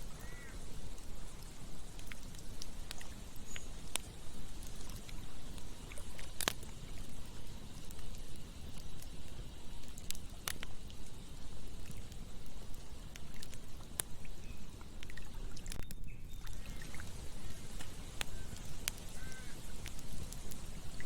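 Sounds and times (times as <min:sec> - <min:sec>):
campfire crackling and popping: 0:00.0 - 0:21.0
flowing river water: 0:00.0 - 0:21.0.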